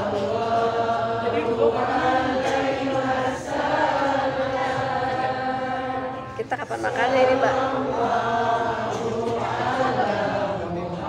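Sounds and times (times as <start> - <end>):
group chanting devotional praise: 0.0 - 11.0.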